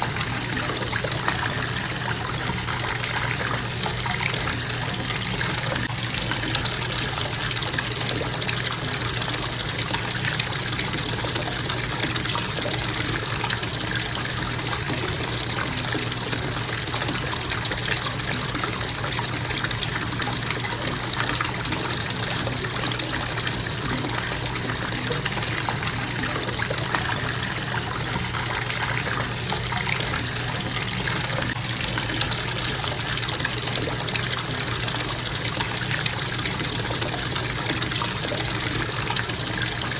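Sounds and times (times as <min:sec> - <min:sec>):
faucet water pouring into tub: 0:00.0 - 0:39.9.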